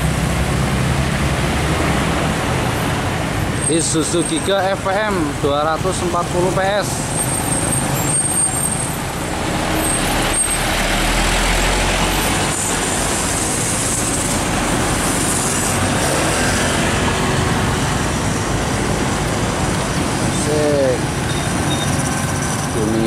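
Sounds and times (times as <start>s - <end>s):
diesel truck engine rumbling: 0.0s - 23.0s
passing cars and motorcycles: 0.0s - 23.0s.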